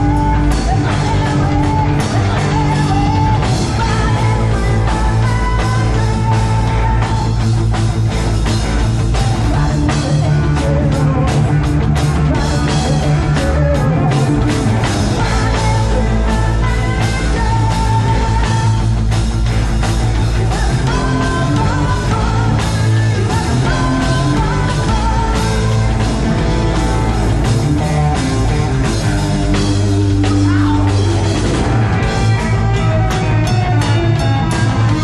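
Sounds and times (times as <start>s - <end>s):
lead guitar line: 0.0s - 35.0s
rock band playing live: 0.0s - 35.0s.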